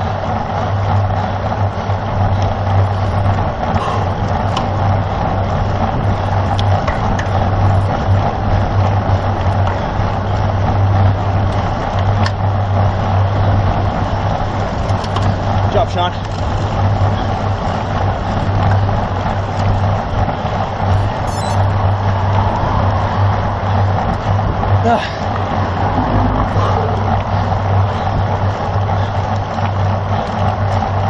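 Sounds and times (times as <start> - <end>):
low pulsing hum: 0.0 - 31.0
road noise: 0.0 - 31.0.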